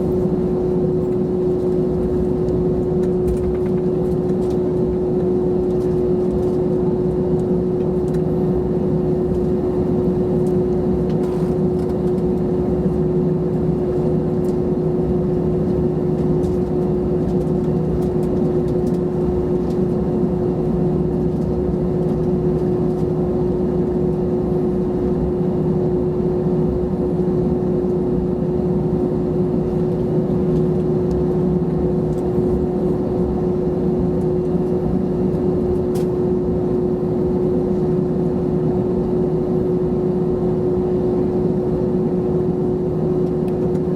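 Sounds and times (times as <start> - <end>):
jet engines humming in cabin: 0.0 - 43.9.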